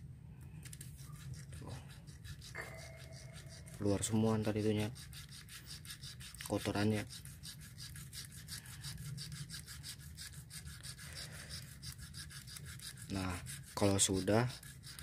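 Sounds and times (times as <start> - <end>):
fast rhythmic scraping: 0.9 - 15.0.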